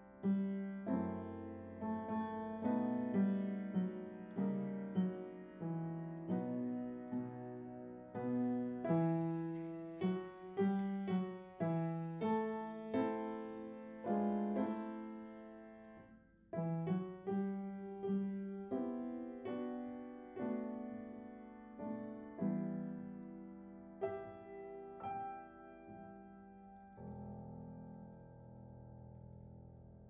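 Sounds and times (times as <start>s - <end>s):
slow solo piano: 0.0s - 30.0s.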